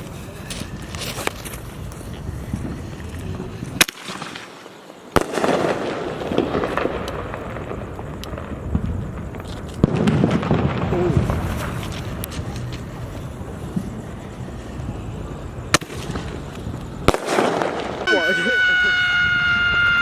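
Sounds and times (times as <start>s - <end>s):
firework crackling: 0.0s - 20.0s
firework bangs: 2.5s - 20.0s.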